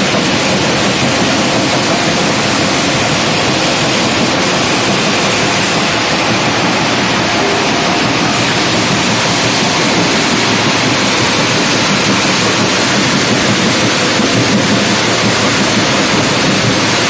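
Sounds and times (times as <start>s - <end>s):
rock crusher roaring: 0.0s - 17.0s.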